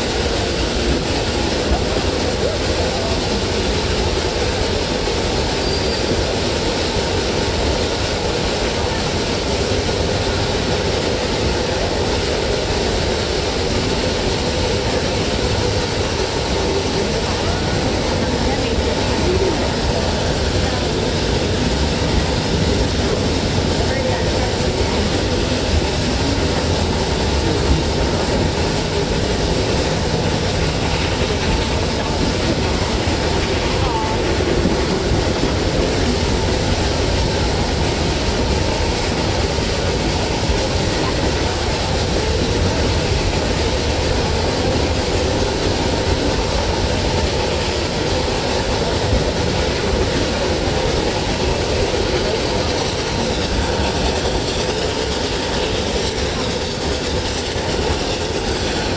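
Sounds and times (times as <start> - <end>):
train cars rumbling on rails: 0.0 - 58.9.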